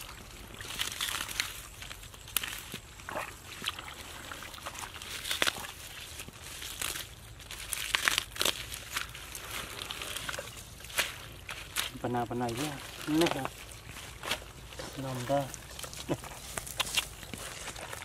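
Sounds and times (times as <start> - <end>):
hands squelching in mud: 0.0 - 18.0
rustling plant stems: 0.0 - 18.0.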